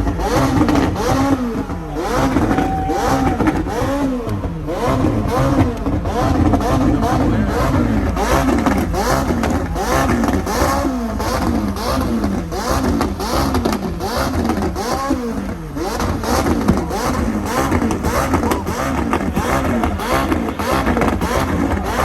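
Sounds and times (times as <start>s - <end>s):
car engines revving: 0.0s - 22.0s
low rumble of idling engines: 0.0s - 22.0s.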